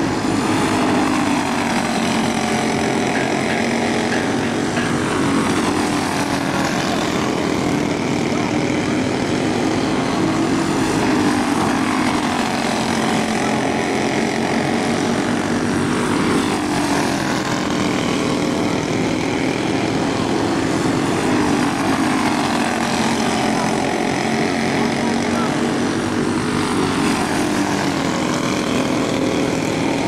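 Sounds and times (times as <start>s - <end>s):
go-kart engines buzzing: 0.0s - 30.0s.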